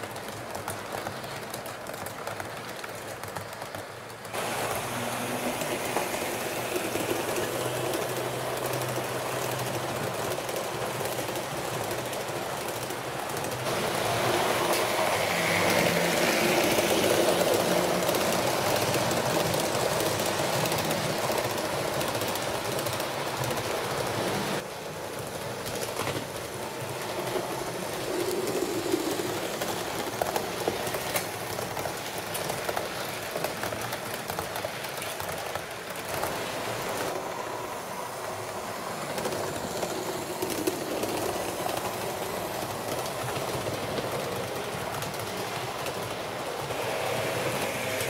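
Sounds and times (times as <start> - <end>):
wheels clicking over rail joints: 0.0 - 37.5, 38.2 - 48.0
model train running on track: 0.0 - 48.0.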